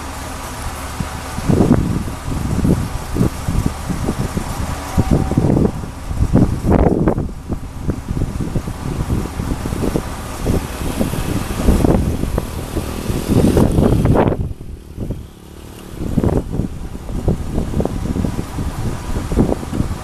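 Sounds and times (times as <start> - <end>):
excavator diesel engine running: 0.0 - 20.0
wind buffeting microphone: 0.0 - 20.0.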